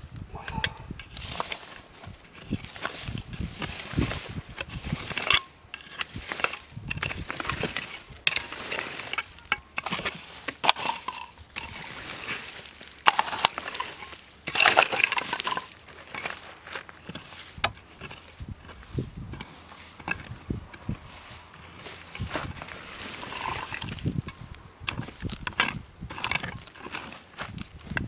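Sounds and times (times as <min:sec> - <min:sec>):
hoe chopping into stony soil: 0:00.6 - 0:28.0
stones clinking: 0:01.0 - 0:28.0.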